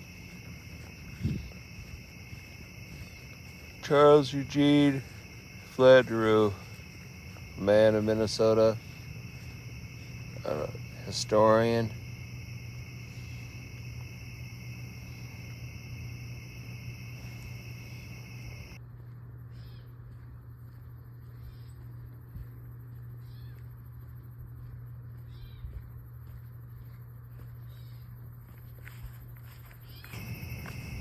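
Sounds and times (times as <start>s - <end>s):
insects trilling: 0.0s - 18.8s, 20.9s - 31.0s
steady low hum: 0.0s - 29.4s.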